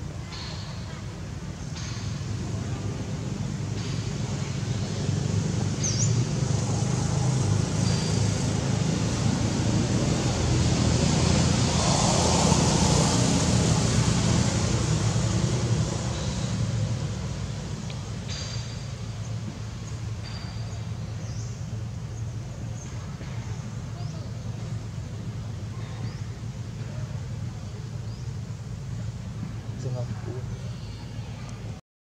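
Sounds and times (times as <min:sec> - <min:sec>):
vehicle engine rumble: 0:00.0 - 0:31.8.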